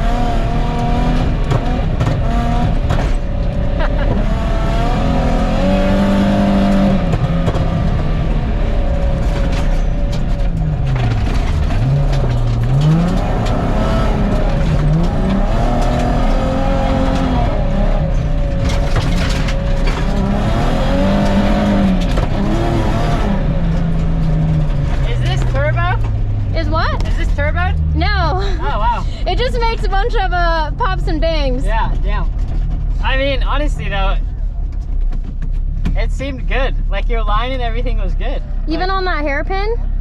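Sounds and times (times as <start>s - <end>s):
tyres rumbling on gravel: 0.0s - 38.9s
car engine revving: 0.0s - 40.0s.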